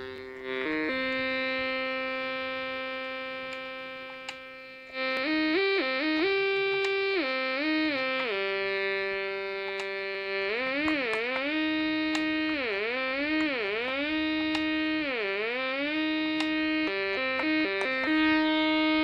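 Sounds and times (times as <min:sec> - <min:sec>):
synthesizer chords gliding: 0:00.0 - 0:19.0.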